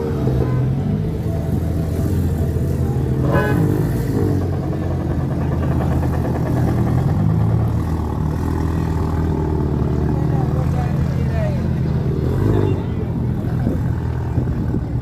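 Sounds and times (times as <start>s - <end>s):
car engines running low: 0.0s - 15.0s.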